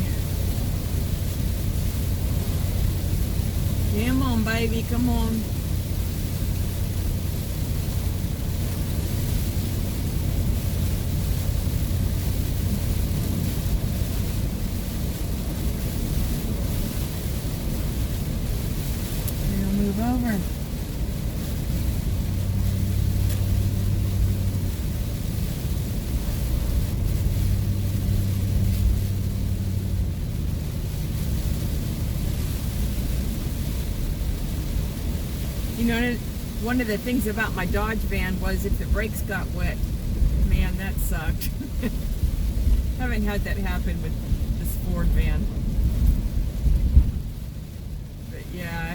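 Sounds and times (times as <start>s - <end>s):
engine and tyre rumble: 0.0s - 48.9s
rain and spray hiss: 0.0s - 48.9s.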